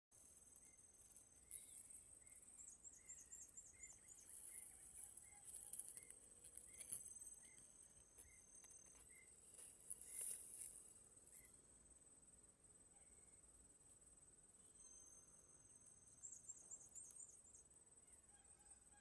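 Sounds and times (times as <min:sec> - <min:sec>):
high insect drone: 0:00.2 - 0:18.0.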